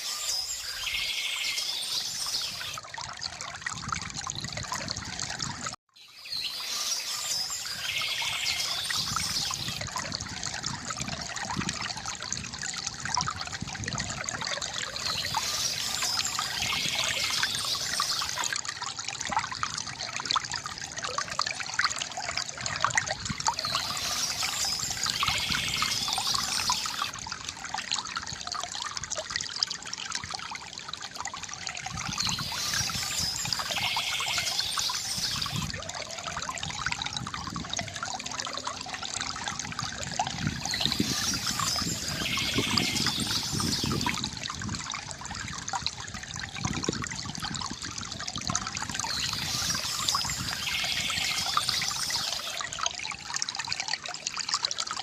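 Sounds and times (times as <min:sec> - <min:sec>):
river water trickling: 0:00.0 - 0:55.0.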